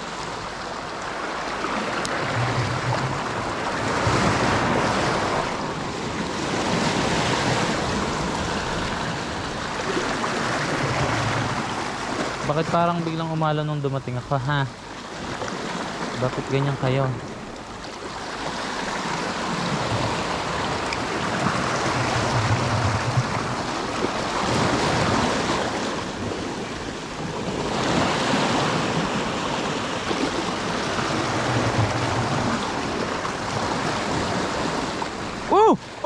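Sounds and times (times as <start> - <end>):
sea waves breaking on shore: 0.0 - 36.0.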